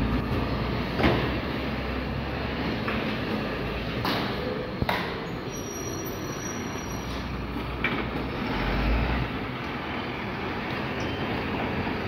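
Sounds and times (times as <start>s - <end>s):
truck diesel engine: 0.0s - 12.0s.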